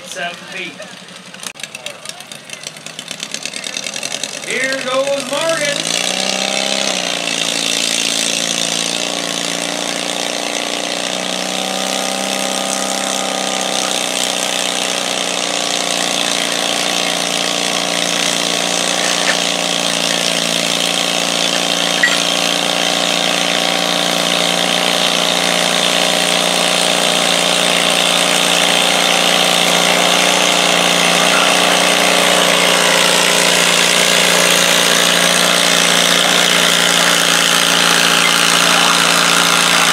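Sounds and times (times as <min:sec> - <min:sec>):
tractor engine pulling under load: 0:00.0 - 0:39.9.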